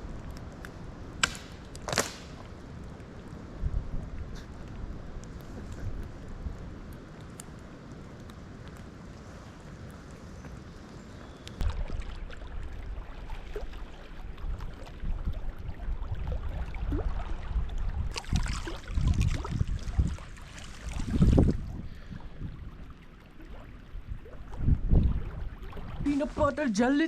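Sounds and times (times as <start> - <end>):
wind buffeting microphone: 2.4 - 7.2, 8.1 - 27.0.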